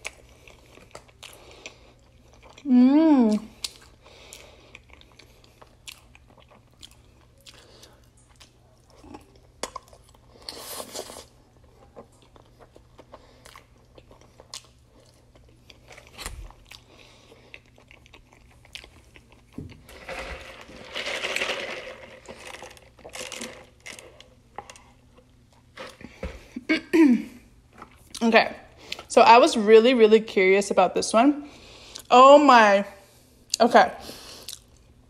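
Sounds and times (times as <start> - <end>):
chewing and crunching fries: 0.0 - 26.6, 27.6 - 29.1, 33.4 - 35.0.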